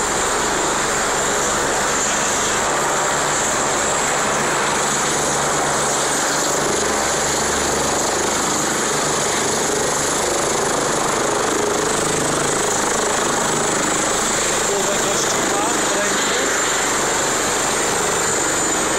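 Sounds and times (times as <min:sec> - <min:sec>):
helicopter turbine and rotors: 0:00.0 - 0:18.9.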